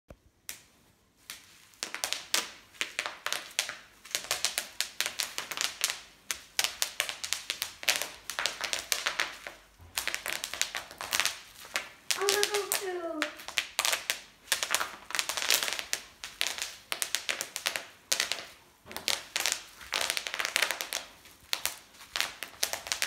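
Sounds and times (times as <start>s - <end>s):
bubble wrap popping: 0.5s - 23.0s
plastic crinkling: 1.2s - 23.0s.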